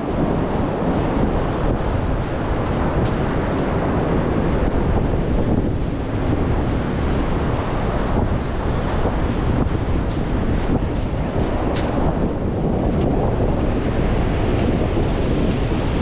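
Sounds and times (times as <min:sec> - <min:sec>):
surf breaking: 0:00.0 - 0:16.0
wind buffeting microphone: 0:00.0 - 0:16.0.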